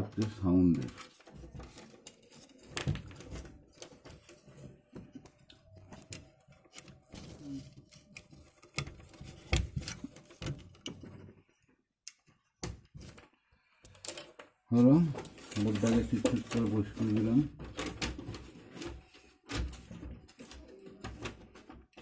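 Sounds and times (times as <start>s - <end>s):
wires and connectors clicking: 0.0s - 22.0s.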